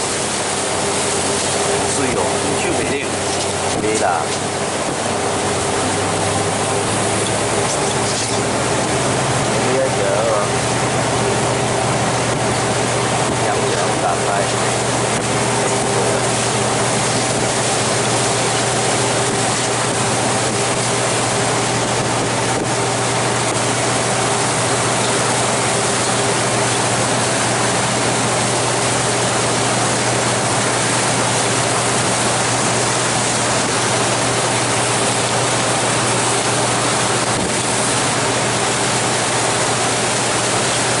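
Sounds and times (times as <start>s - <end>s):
low engine hum: 0.0s - 41.0s
wind and water rushing: 0.0s - 41.0s.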